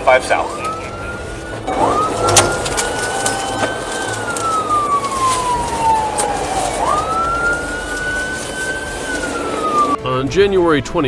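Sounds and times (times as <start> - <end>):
police siren wailing: 0.0 - 10.0
road noise: 0.0 - 10.4.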